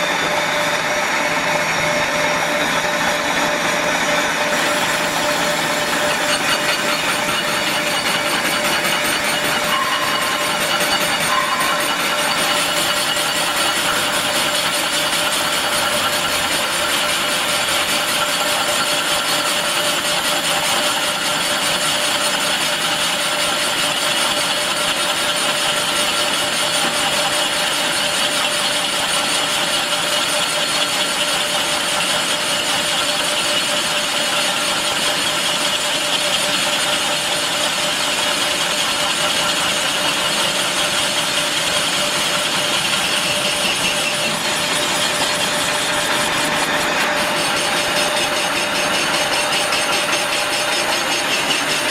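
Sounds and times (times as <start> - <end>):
milling cutter whining: 0.0 - 51.9.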